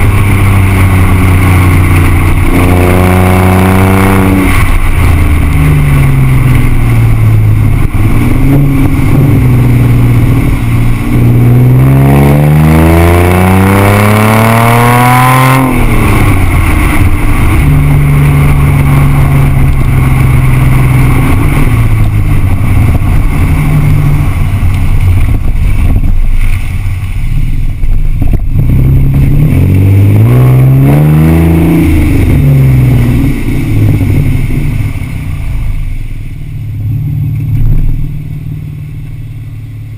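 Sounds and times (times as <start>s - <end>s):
car exhaust accelerating: 0.0s - 39.9s.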